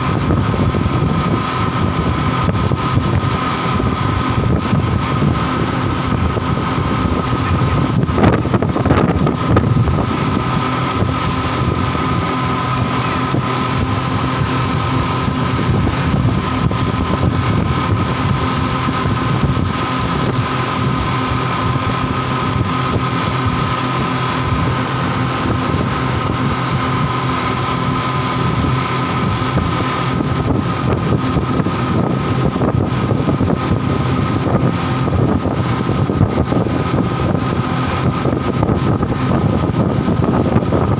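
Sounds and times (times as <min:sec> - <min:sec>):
boat engines droning: 0:00.0 - 0:40.9
high engine whine: 0:00.0 - 0:40.9
wind and water rushing: 0:00.0 - 0:40.9.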